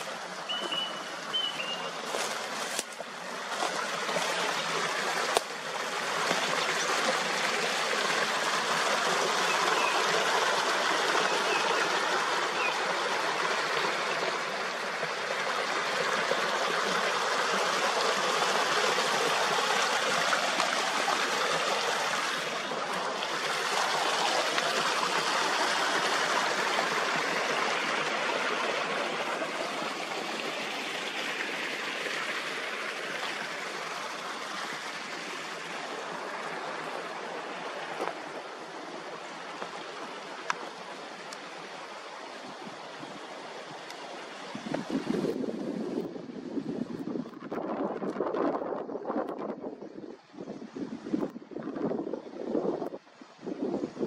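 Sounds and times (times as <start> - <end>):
stream rushing: 0.0 - 46.9.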